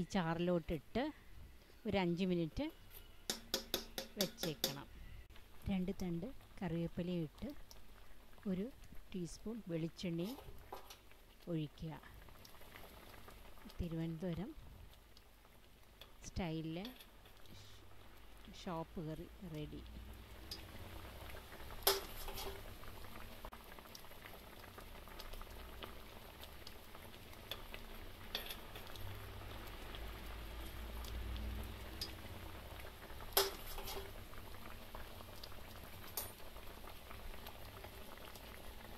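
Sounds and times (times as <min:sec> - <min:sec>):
pot bubbling: 0:02.2 - 0:38.9.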